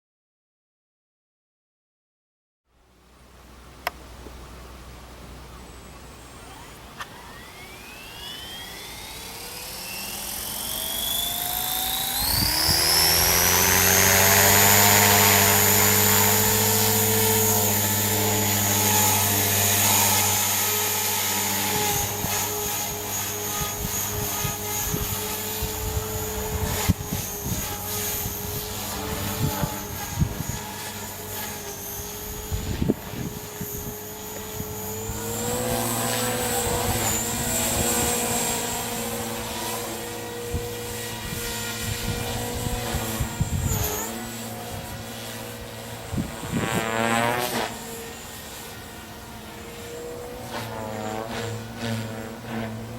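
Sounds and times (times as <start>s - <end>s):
model helicopter motor whine: 5.5s - 52.9s.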